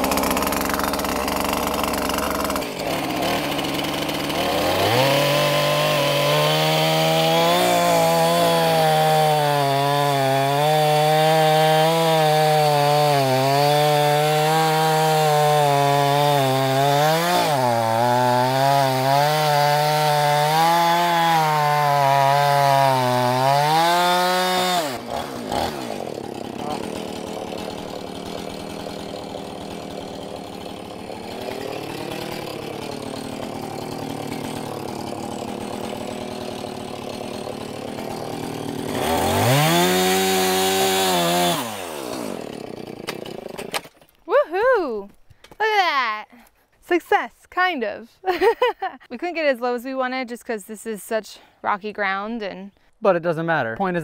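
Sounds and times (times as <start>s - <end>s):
chainsaw cutting stump: 0.0s - 44.7s.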